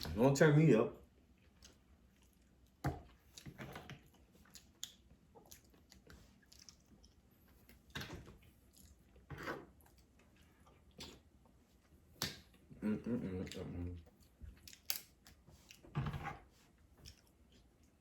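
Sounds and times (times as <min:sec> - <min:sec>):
person chewing wetly: 0:01.2 - 0:15.8, 0:16.8 - 0:18.0.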